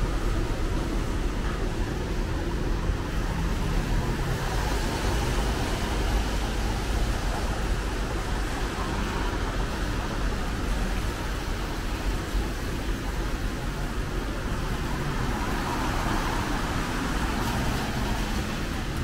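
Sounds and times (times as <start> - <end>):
passing cars rumbling: 0.0 - 19.0
traffic hiss: 0.0 - 19.0.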